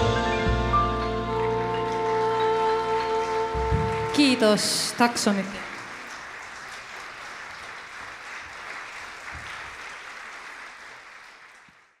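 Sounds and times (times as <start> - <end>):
audience applauding: 0.4 - 12.0.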